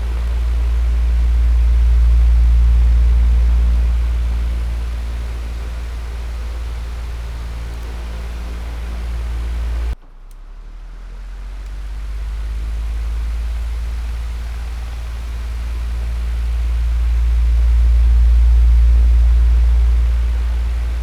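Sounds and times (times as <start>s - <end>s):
electric fan running: 0.0s - 10.0s, 11.4s - 21.0s.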